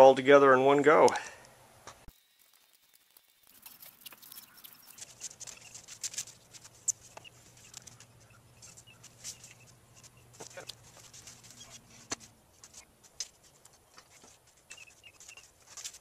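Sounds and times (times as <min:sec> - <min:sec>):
faint steady hum: 0:00.8 - 0:16.0
small clicks and ticks: 0:02.0 - 0:16.0
scratchy rustling of tape and foam: 0:02.1 - 0:16.0.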